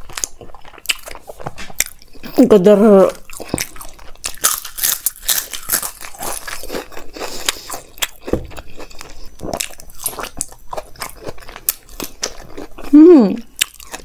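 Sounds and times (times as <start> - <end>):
person crunching crisp food: 0.0 - 2.4, 3.1 - 14.0.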